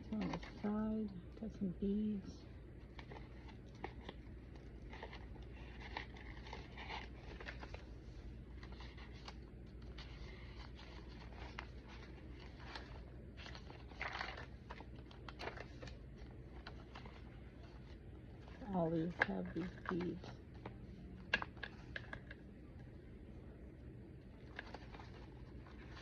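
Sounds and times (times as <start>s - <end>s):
paper pages rustling: 2.8s - 22.4s, 24.4s - 26.0s.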